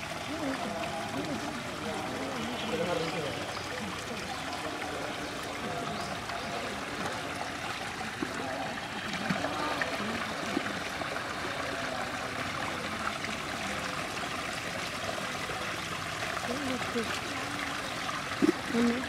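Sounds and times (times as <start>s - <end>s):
water trickling through mesh: 0.0s - 19.0s.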